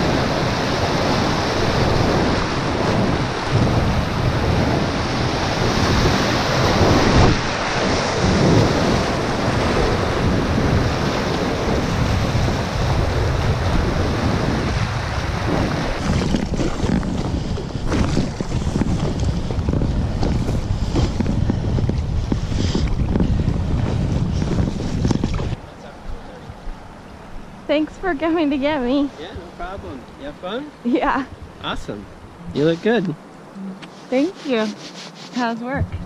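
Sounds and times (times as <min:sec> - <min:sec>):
wind buffeting microphone: 0:00.0 - 0:34.9, 0:35.6 - 0:36.0.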